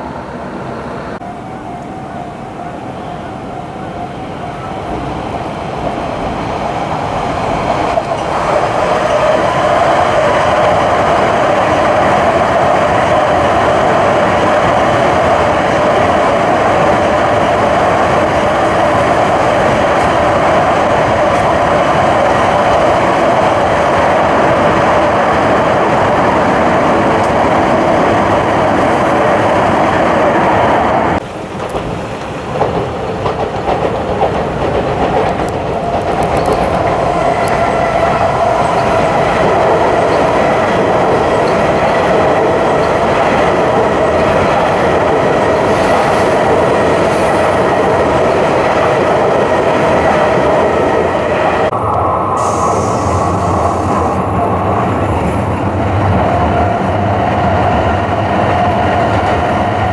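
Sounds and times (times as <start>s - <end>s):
train wheels running on rail: 0.0s - 59.9s.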